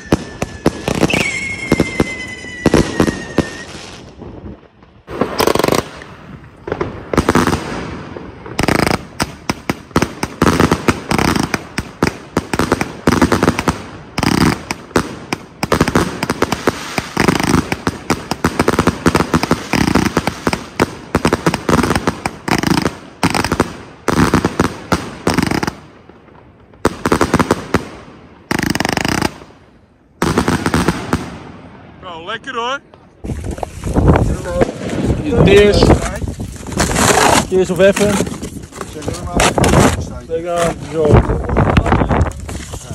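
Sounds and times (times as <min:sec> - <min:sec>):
firework volley of shots: 0:00.0 - 0:38.4.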